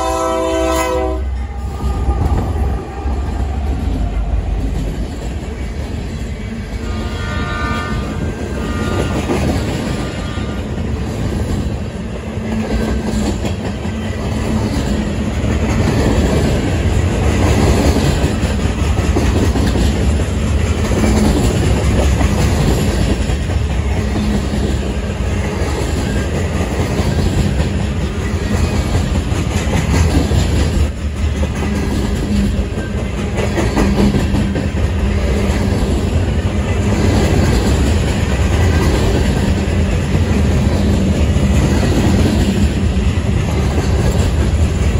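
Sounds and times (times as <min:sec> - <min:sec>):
train wheels rumbling on rail: 0:00.0 - 0:44.9
wheels clacking over rail joints: 0:01.4 - 0:44.9.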